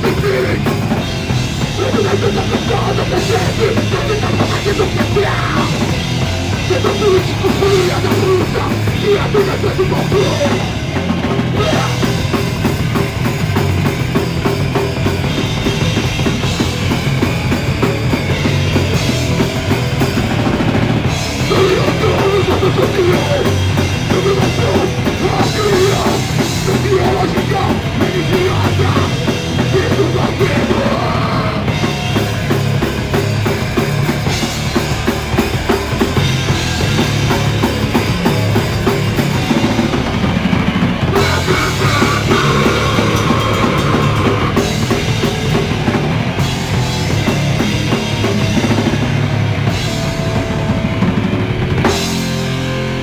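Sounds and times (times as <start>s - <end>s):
live punk rock band: 0.0s - 53.0s
pounding drum kit: 0.0s - 53.0s.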